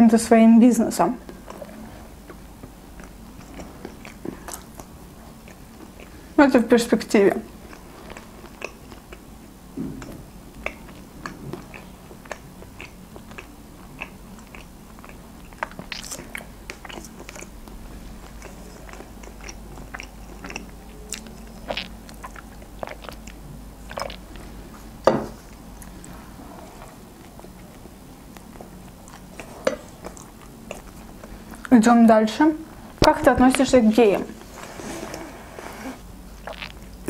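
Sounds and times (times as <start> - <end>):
close chewing mouth clicks: 1.2 - 6.3, 7.5 - 31.8, 36.4 - 37.0.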